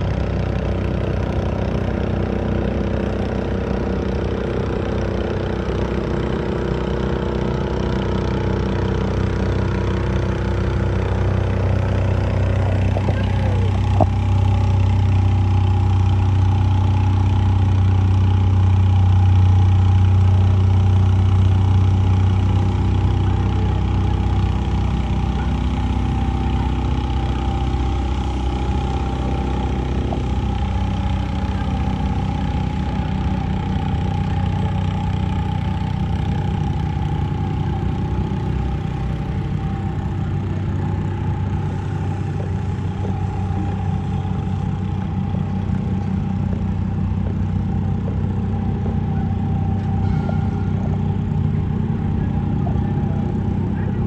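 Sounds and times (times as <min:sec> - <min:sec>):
engine running with low hum: 0:00.0 - 0:54.0.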